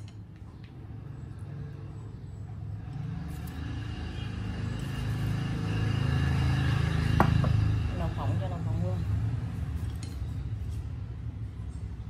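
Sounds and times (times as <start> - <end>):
vehicle engine running: 0.9 - 12.0.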